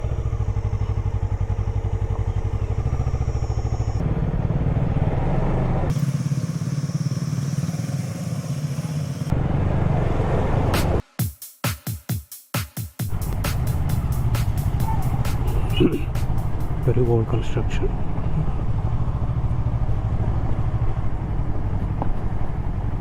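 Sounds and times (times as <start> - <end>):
motorcycle engine running: 0.0 - 11.0, 13.1 - 23.0.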